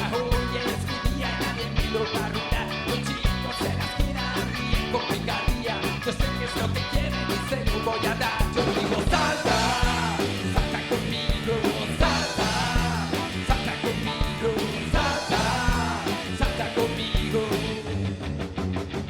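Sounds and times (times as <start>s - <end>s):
drums steady beat: 0.0s - 17.8s
bass guitar: 0.0s - 19.0s
electric guitars: 0.0s - 19.0s.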